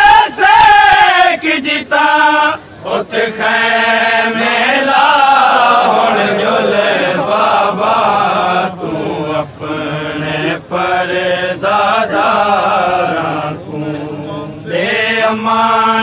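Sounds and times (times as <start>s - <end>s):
person chanting a lament: 0.0s - 16.0s.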